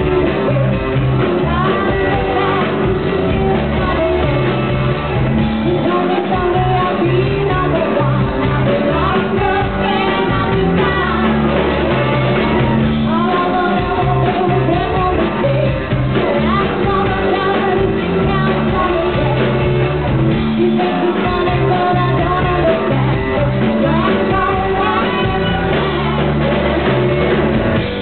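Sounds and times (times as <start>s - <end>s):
person singing: 0.0s - 27.2s
live rock band playing: 0.0s - 28.0s.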